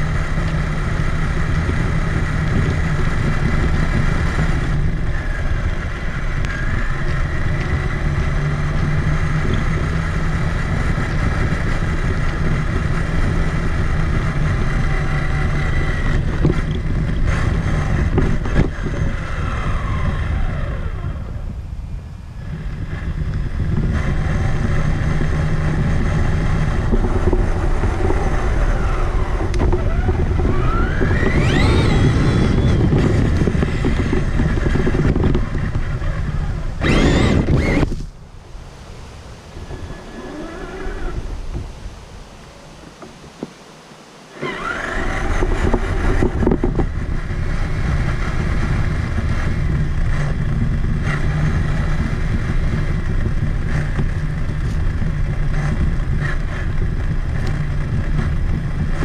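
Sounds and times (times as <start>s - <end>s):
electric motor and gears whining: 0.0s - 41.9s, 42.7s - 59.0s.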